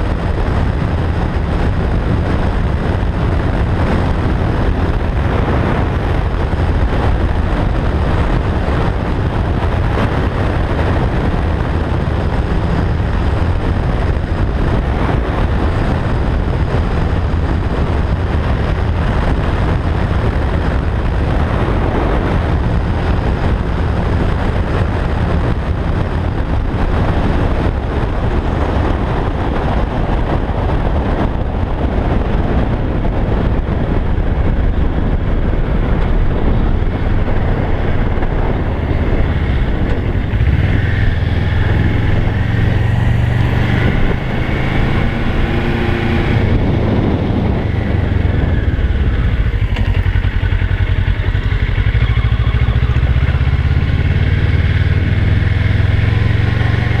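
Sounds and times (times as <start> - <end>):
motorcycle engine running: 0.0 - 57.0
wind rushing on microphone: 0.0 - 57.0.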